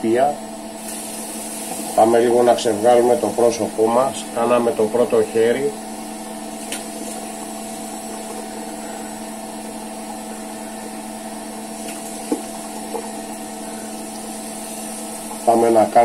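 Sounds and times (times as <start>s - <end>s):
tap water running: 0.7s - 16.0s.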